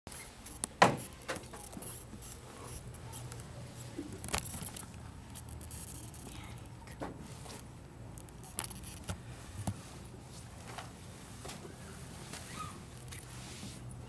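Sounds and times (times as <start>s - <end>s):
low steady hum: 0.2s - 14.0s.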